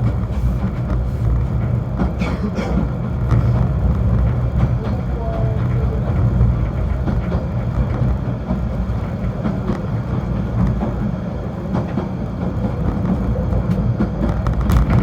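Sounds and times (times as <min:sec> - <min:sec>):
train clicks and knocks: 0:00.0 - 0:15.0
train low rumble: 0:00.0 - 0:15.0.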